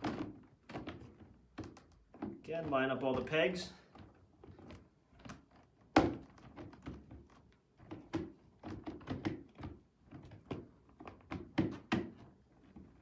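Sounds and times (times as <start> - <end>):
plastic panels clicking and knocking: 0.0 - 13.0.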